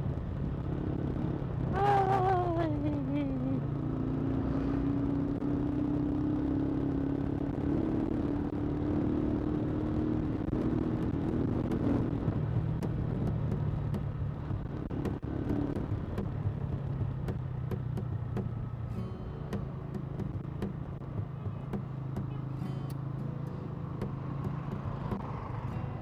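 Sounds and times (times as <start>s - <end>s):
motorcycle engine running: 0.0s - 26.0s
road noise: 0.0s - 26.0s.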